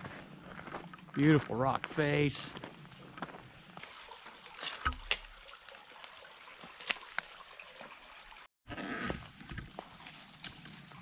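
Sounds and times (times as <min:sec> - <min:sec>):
creek water trickling: 0:00.1 - 0:08.5, 0:09.1 - 0:11.0.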